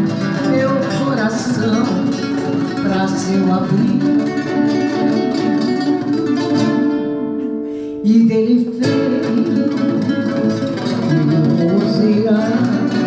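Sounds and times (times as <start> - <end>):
classical guitar fingerpicking: 0.0 - 13.0.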